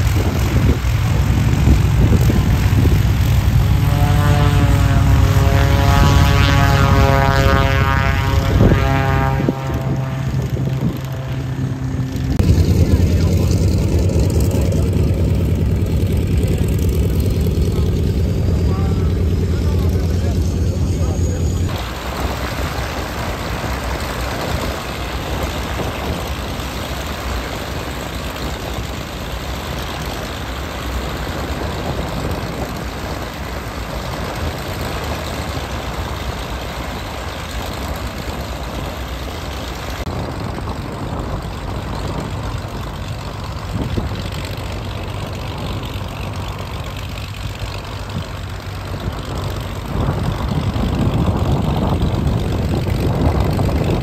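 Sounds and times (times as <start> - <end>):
airplane engines idling: 0.0 - 54.0.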